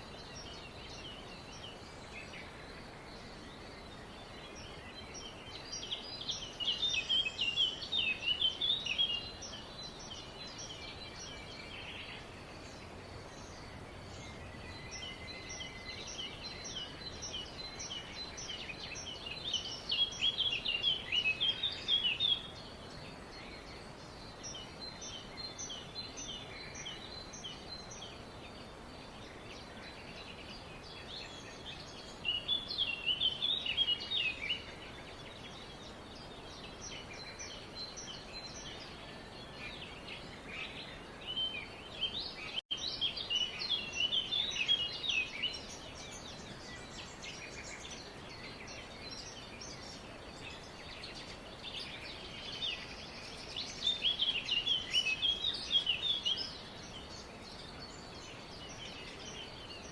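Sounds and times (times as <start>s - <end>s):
background hiss: 0.0s - 59.9s
birds chirping: 0.0s - 59.9s.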